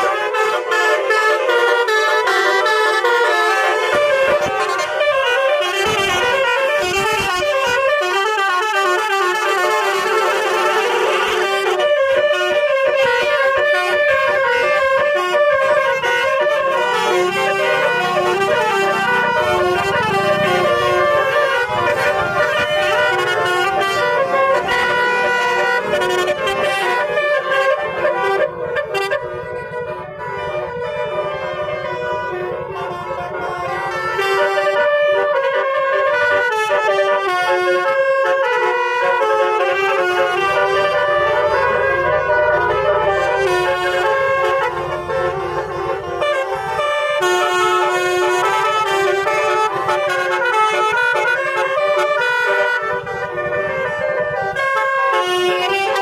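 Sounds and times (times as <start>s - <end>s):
musical air horns playing tune: 0.0s - 56.0s.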